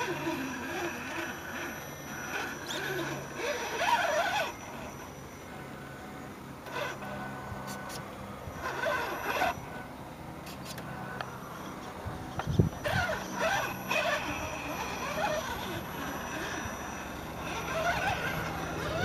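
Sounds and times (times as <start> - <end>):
toy crawler motor whining: 0.0 - 19.0.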